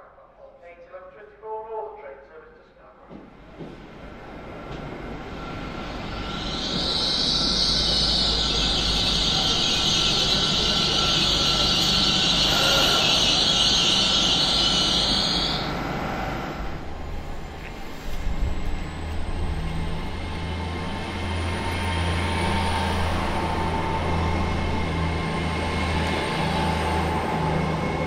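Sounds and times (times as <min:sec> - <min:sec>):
low train rumble: 0:00.0 - 0:28.0
train passing with high whine: 0:03.0 - 0:28.0.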